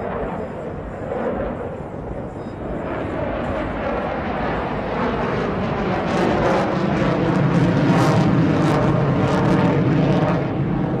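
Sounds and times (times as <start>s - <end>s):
fighter jet roar: 0.0s - 11.0s.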